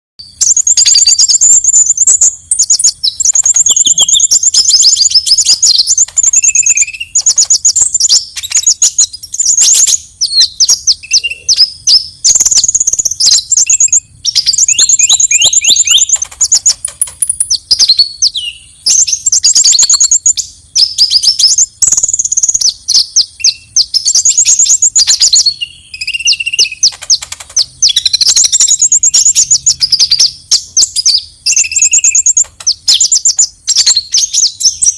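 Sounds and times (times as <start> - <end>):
bird trilling and chattering: 0.2 - 34.9.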